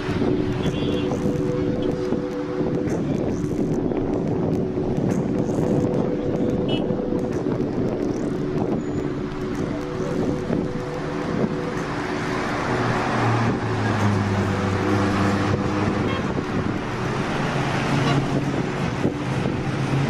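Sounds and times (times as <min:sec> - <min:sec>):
car engine and tyre road noise: 0:00.0 - 0:20.0.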